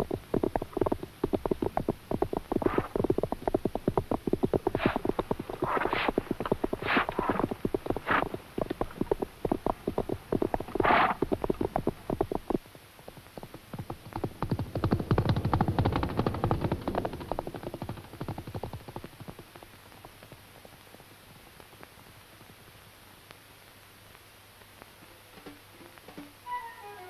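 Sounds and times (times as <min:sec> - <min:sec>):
horses' hooves galloping: 0:00.0 - 0:26.6.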